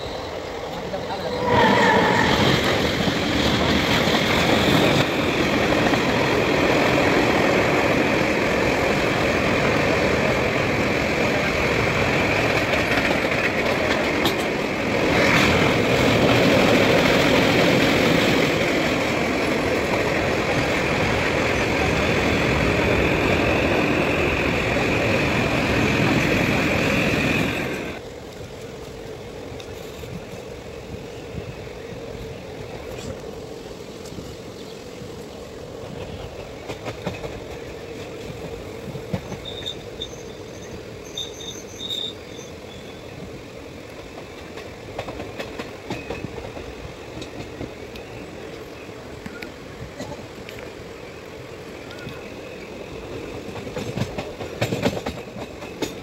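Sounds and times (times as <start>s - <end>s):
goods train passing close by: 0.0s - 56.0s
passenger train running noise: 0.0s - 56.0s.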